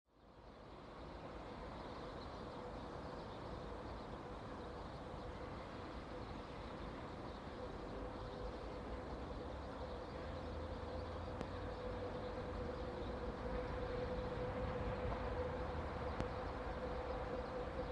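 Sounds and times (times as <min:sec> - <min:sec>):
thin steady whine: 0:00.2 - 0:17.9
distant diesel locomotive rumble: 0:00.3 - 0:17.9.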